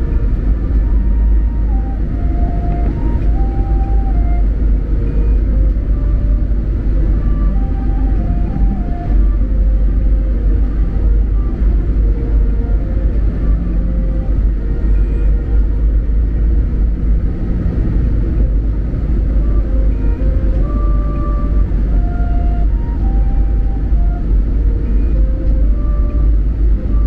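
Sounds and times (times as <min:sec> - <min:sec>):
jet cabin engine rumble: 0:00.0 - 0:27.0.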